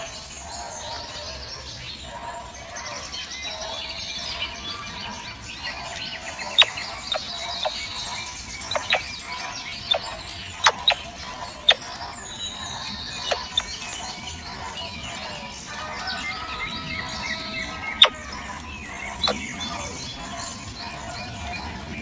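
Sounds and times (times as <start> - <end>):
birds chirping: 0.0 - 22.0
faint high twittering: 3.5 - 22.0.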